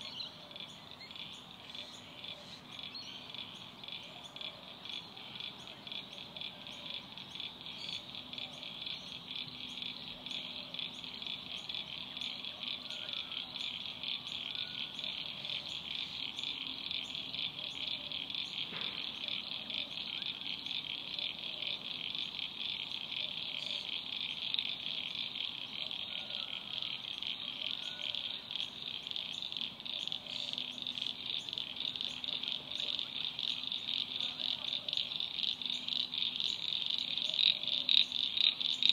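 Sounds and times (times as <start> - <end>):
faint low frog calls: 0.0 - 38.9
insects trilling: 0.0 - 38.9.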